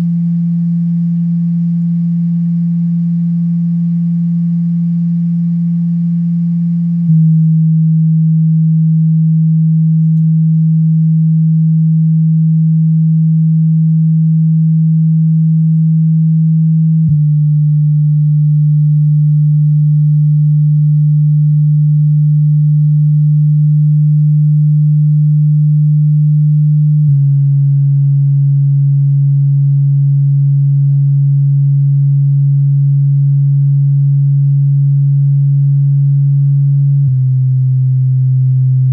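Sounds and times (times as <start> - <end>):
subwoofer low sine test tone: 0.0 - 38.9.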